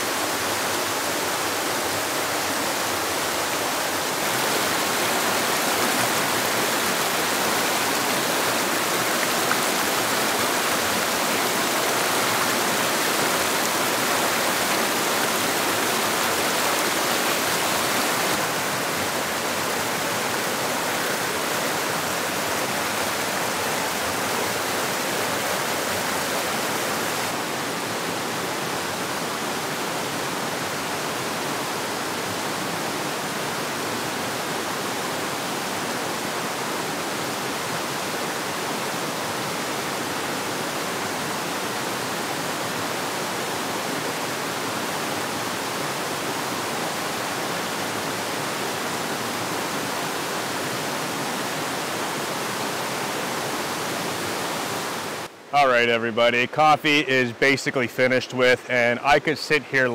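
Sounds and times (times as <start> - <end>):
stream rushing over rocks: 0.0 - 55.6.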